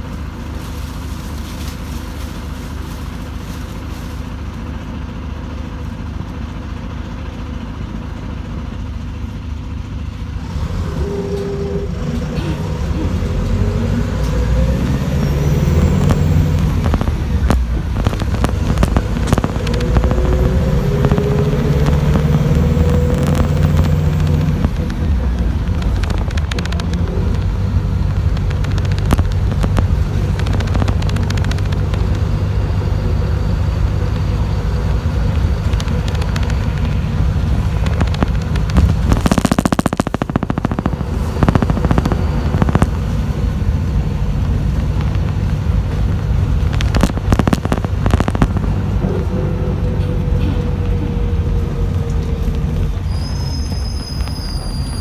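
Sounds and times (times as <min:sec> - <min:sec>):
bus engine and road rumble: 0:00.0 - 0:55.0
rattles and clicks from bus body: 0:00.0 - 0:55.0
rush of noise: 0:10.3 - 0:55.0.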